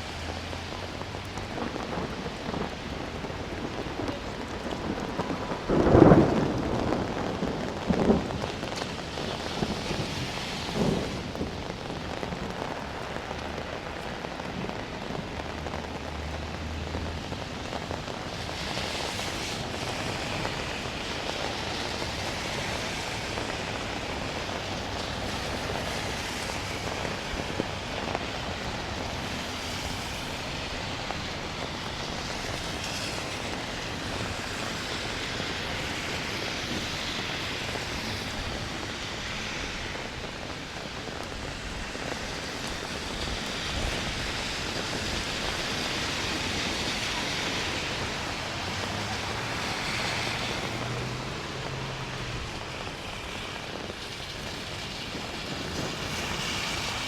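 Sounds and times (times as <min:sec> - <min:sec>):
car tyres hissing on wet asphalt: 0:00.0 - 0:57.0
steady rain on street: 0:00.0 - 0:57.0.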